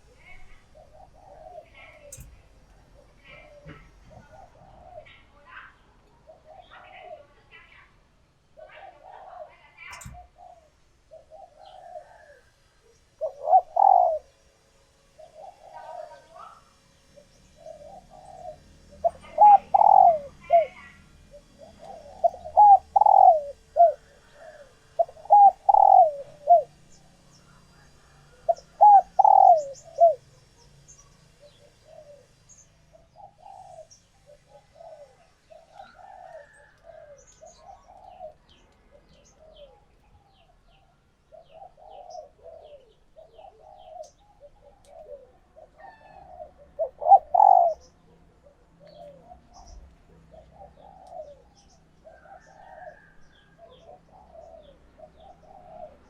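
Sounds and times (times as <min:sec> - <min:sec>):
doves cooing: 0:00.0 - 0:56.0.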